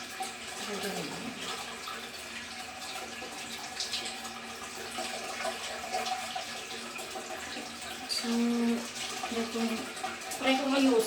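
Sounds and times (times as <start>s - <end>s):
water running through toilet: 0.0s - 11.0s.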